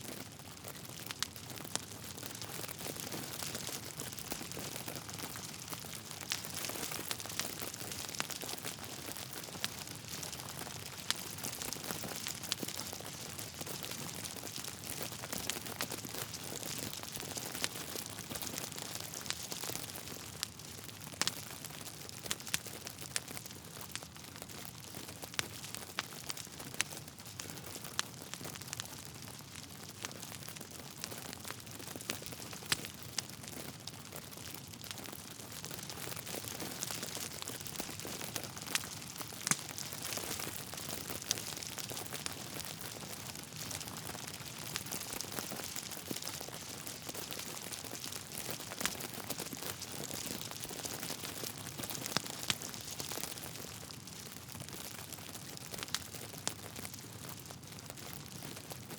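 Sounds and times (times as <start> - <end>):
burning logs popping: 0.1 - 58.9
wood fire crackling: 0.1 - 58.9.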